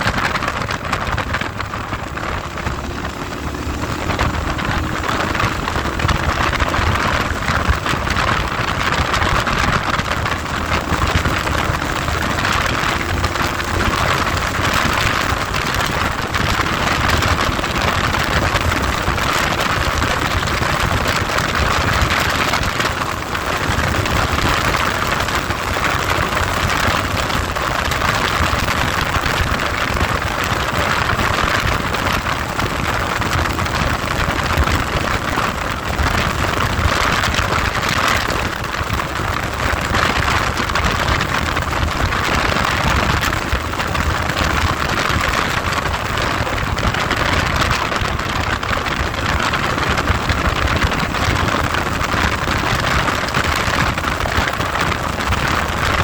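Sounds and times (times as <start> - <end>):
faint vehicle engine: 0.0 - 56.0
wind buffeting microphone: 0.0 - 56.0.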